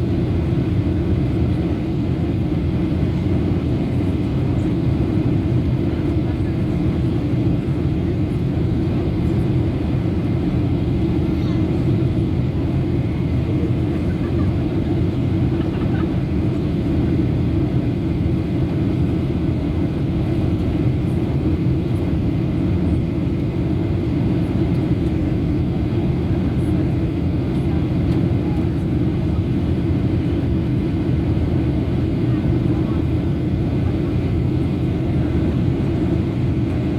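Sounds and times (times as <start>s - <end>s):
jet engine cabin rumble: 0.0s - 36.9s.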